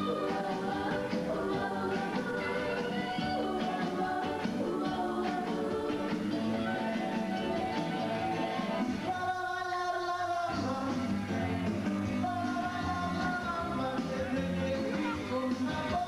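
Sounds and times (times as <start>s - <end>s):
party music with singing: 0.0s - 16.0s.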